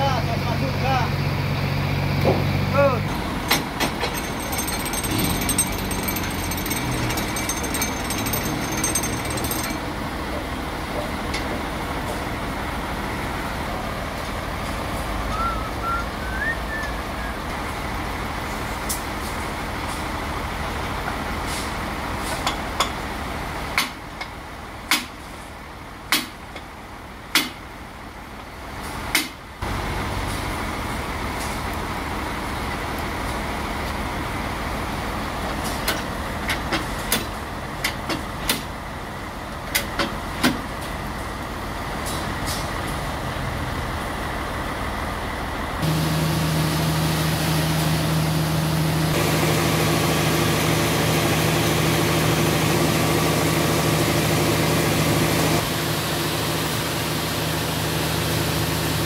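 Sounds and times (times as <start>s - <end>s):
sawmill machinery din: 0.0s - 24.1s, 28.8s - 59.0s.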